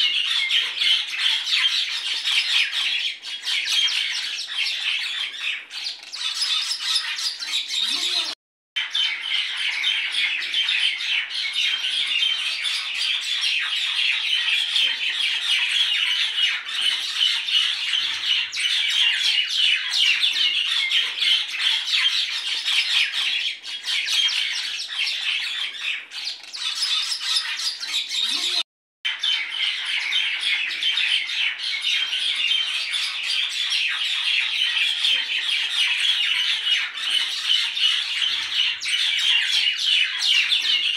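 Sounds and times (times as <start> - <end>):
small birds chirping and squawking: 0.0 - 40.9.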